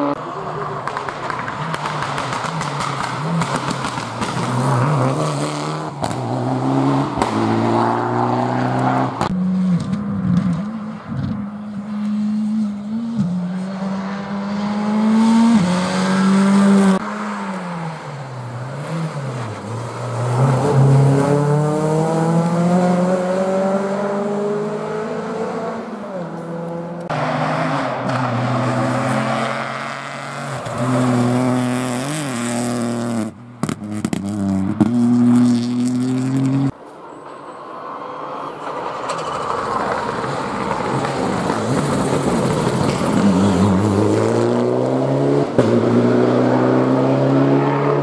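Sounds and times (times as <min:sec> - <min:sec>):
rally car engines revving: 0:00.0 - 0:36.8, 0:38.6 - 0:48.0.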